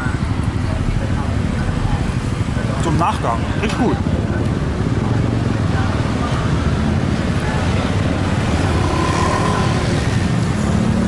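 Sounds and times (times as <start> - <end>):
scooters and cars passing: 0.0 - 11.0.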